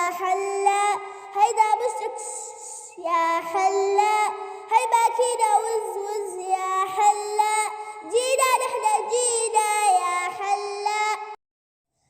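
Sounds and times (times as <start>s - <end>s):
child singing: 0.0s - 11.4s.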